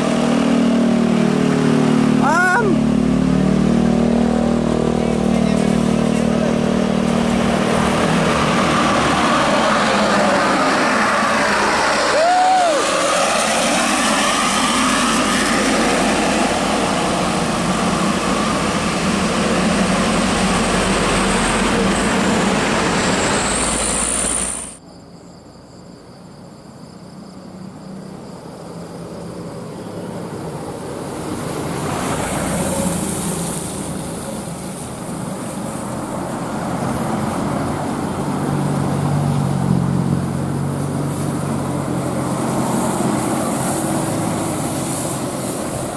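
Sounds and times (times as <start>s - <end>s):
quieter traffic noise: 0.0s - 45.9s
road traffic passing close: 0.0s - 45.9s.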